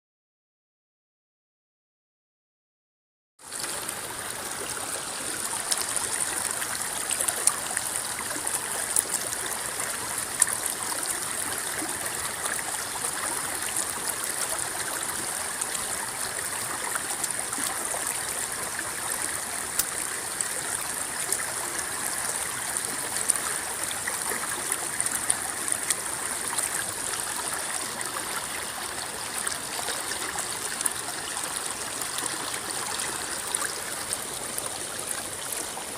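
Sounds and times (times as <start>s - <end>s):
river water babbling: 3.4s - 35.9s.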